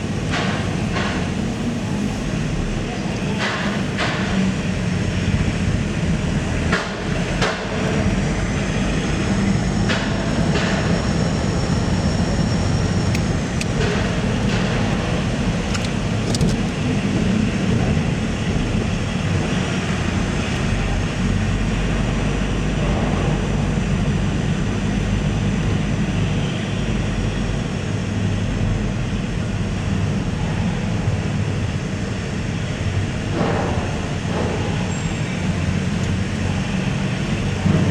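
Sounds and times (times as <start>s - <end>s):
low rumble of engines: 0.0s - 37.9s.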